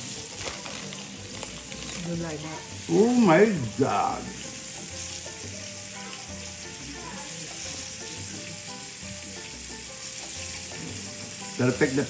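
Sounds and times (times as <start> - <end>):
fish sizzling in oil: 0.0 - 12.0
soft background music: 0.0 - 12.0.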